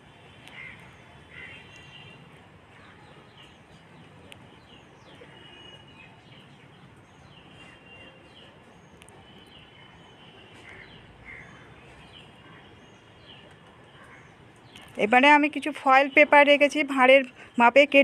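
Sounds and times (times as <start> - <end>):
faint birds chirping: 0.2 - 18.0.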